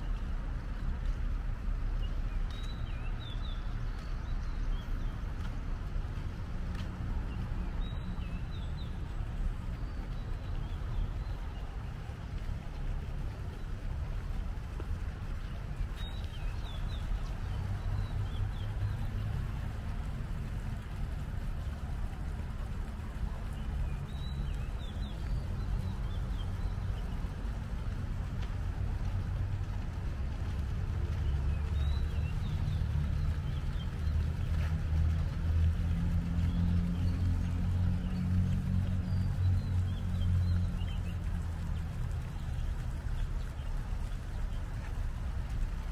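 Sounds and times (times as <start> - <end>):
low rumble of city traffic: 0.0 - 45.9.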